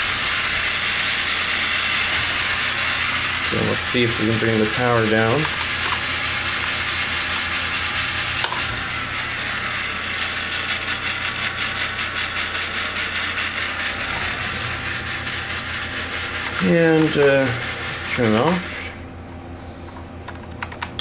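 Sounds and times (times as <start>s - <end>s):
electric motor whirring: 0.0s - 19.0s.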